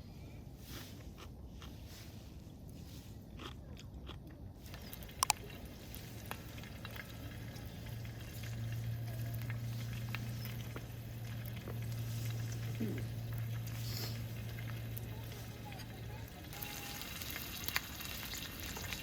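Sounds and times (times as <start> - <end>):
steady low stove hum: 0.0 - 19.0.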